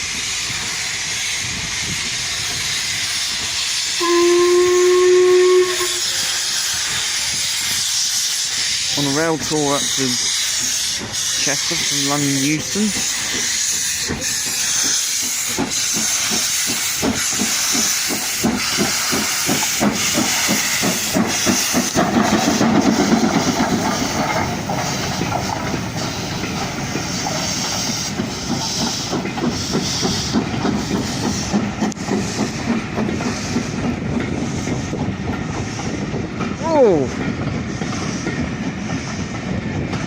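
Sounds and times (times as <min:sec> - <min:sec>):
steam hissing: 0:00.0 - 0:40.0
steam locomotive exhaust beats: 0:00.0 - 0:40.0.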